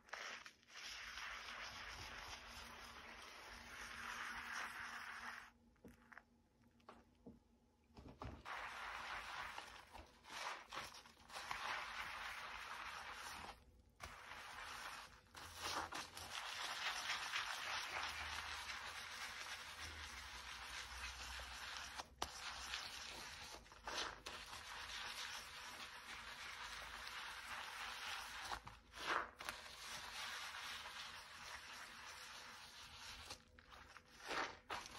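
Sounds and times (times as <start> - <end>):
sponge scrubbing steel sink: 0.6 - 5.5, 8.2 - 34.9.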